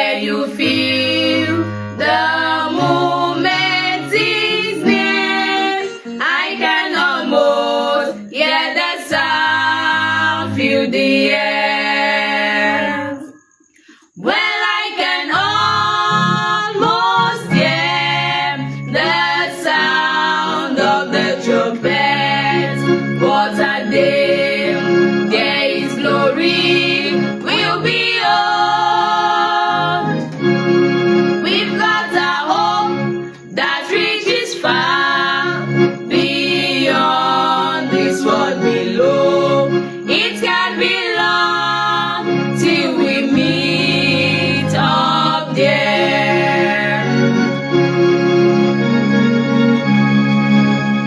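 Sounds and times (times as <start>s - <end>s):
gospel singing: 0.0s - 48.5s
organ accompaniment: 0.0s - 51.0s.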